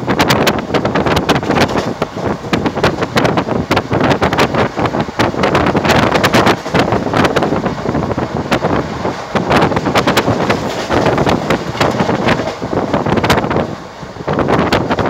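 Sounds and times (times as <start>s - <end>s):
train wheels clattering on track: 0.0s - 15.0s
wind rushing over microphone: 0.0s - 15.0s.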